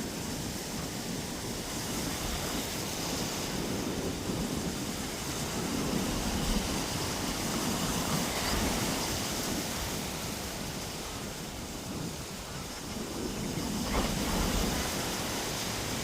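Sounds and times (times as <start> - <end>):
surf washing onto beach: 0.0 - 16.0
wind rumbling on microphone: 0.0 - 16.0.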